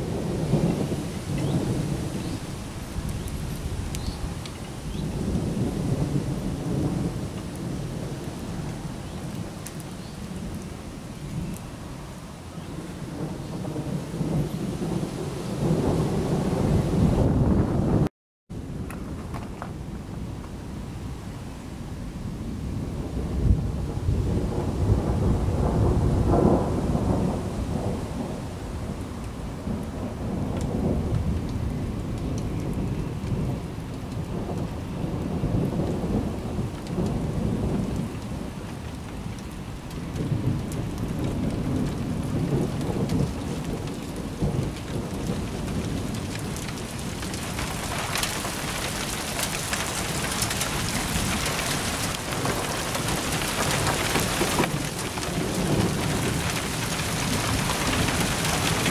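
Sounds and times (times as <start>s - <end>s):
thunder rumbling: 0.0s - 21.2s, 22.0s - 58.9s
rain falling: 0.0s - 58.9s.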